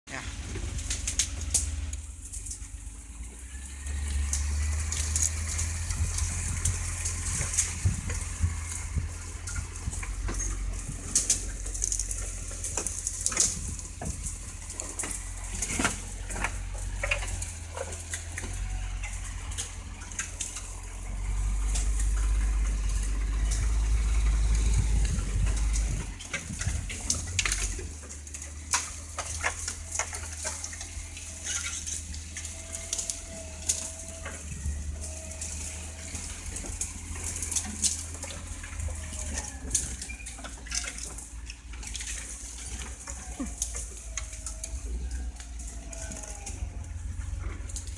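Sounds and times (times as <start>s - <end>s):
vehicle engine rumbling: 0.0s - 47.9s
branches cracking and scraping: 0.3s - 47.9s.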